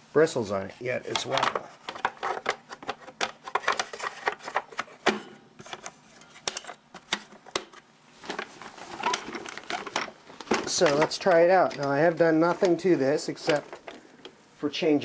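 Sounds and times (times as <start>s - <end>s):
vacuum cleaner plastic parts clattering: 1.1s - 14.4s.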